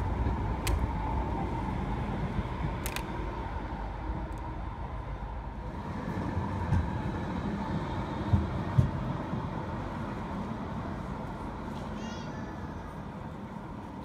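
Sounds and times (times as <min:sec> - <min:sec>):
tram rumbling past: 0:00.0 - 0:14.0.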